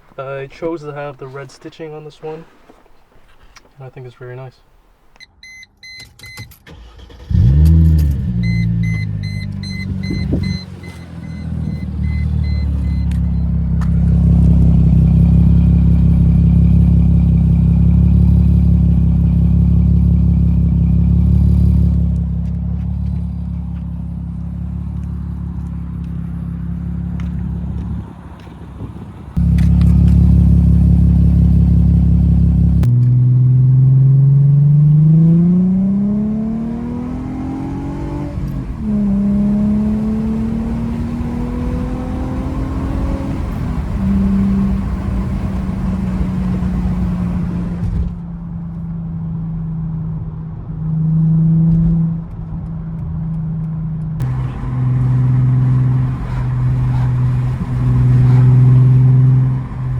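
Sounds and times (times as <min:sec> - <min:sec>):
car engine accelerating: 0:06.7 - 0:59.9.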